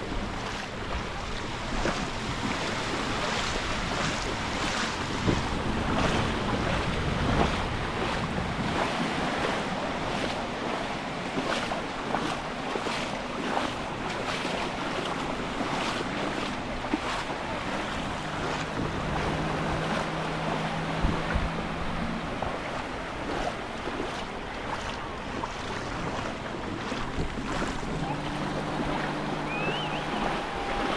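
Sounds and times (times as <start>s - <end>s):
waves washing onto beach: 0.0s - 30.9s
wind buffeting microphone: 0.0s - 30.9s.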